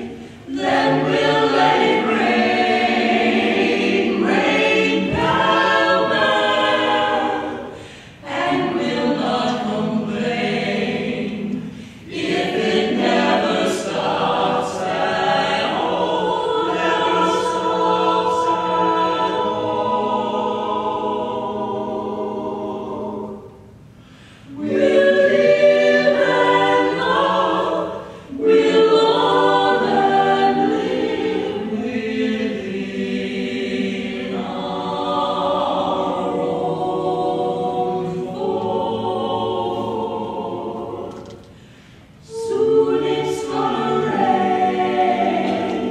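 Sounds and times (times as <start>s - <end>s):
mixed choir singing in harmony: 0.0s - 45.9s.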